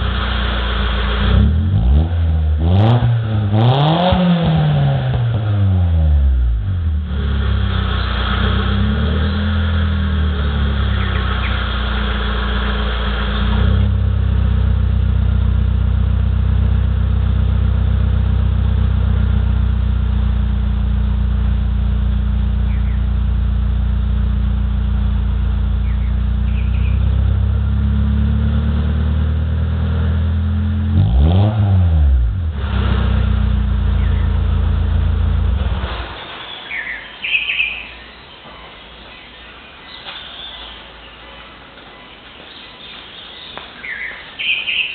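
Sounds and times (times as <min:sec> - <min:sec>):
car engine idling: 0:00.0 - 0:44.8.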